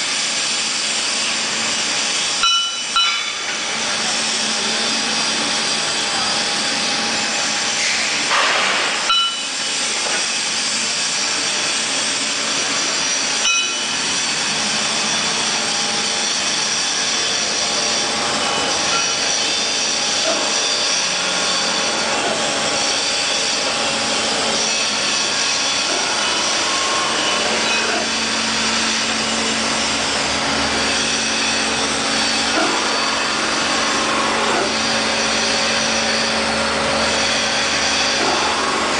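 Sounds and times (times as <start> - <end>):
grinder machine grinding: 0.0 - 38.9.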